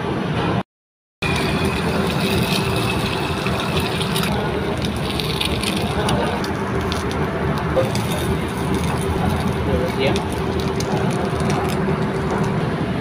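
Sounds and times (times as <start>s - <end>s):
egg sizzling in hot oil: 1.2s - 12.5s.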